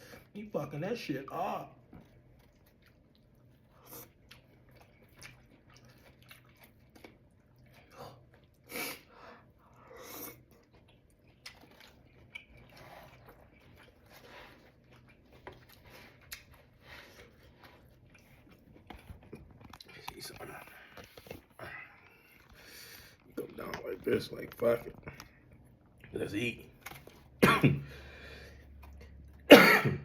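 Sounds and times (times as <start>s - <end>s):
person chewing food: 1.8s - 26.1s, 26.7s - 29.5s.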